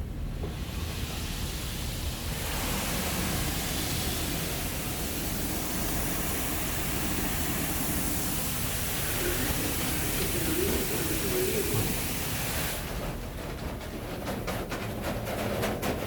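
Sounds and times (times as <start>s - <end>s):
car wash water spray hissing: 0.0s - 13.3s.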